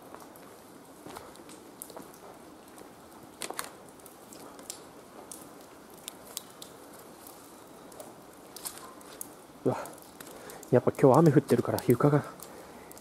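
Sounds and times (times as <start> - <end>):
footsteps on wet muddy ground: 0.0 - 13.0
sharp crackles and snaps: 0.0 - 13.0
steady hiss: 0.0 - 13.0.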